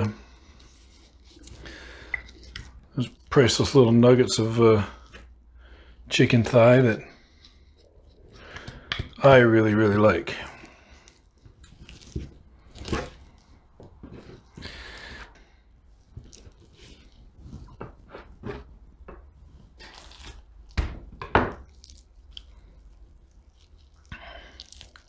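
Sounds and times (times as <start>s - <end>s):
wet squishing of meat: 0.0s - 5.5s, 6.5s - 13.8s, 14.4s - 17.8s, 19.2s - 20.8s, 21.6s - 25.0s.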